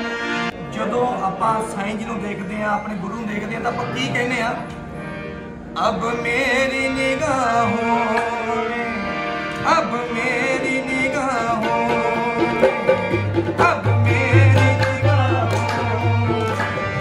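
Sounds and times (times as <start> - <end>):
harmonium chords: 0.0 - 17.0
man singing devotional song: 0.6 - 4.8, 5.8 - 17.0.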